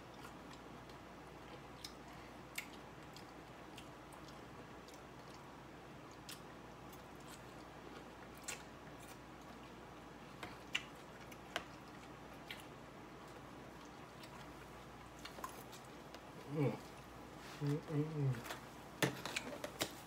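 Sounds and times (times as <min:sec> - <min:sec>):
person chewing salad: 0:00.0 - 0:17.8
faint low hum: 0:00.0 - 0:20.0.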